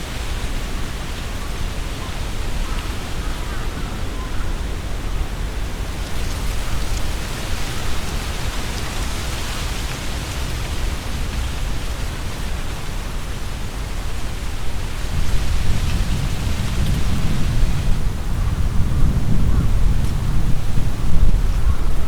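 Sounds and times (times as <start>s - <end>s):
leaves rustling in wind: 0.0s - 22.0s
wind rumble on microphone: 0.0s - 22.0s.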